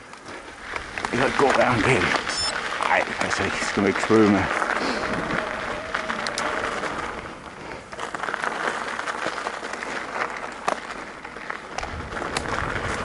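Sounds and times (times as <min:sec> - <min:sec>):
bike tyres rolling on dirt: 0:00.0 - 0:13.0.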